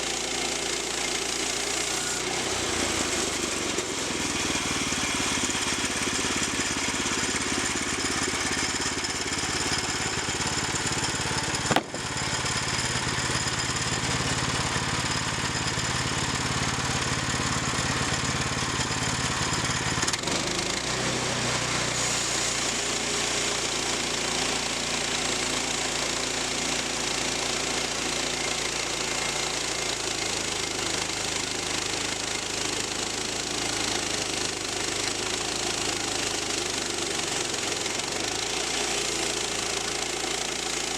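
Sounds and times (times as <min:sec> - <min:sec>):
sawmill gasoline engine running: 0:00.0 - 0:40.9.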